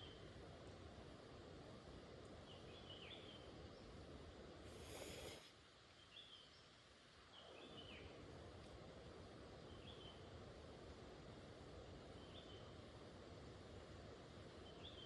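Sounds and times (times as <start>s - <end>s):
faint rain hiss: 0.0s - 15.0s.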